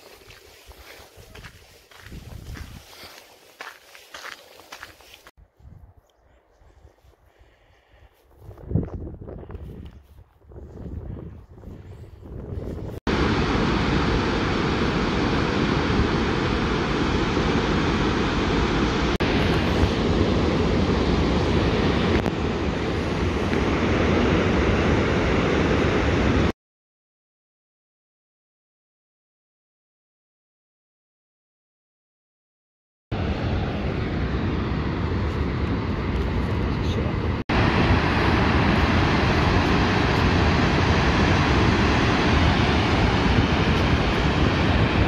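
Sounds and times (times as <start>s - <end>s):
wind on microphone: 0.0s - 3.2s, 5.4s - 26.5s, 33.2s - 45.0s.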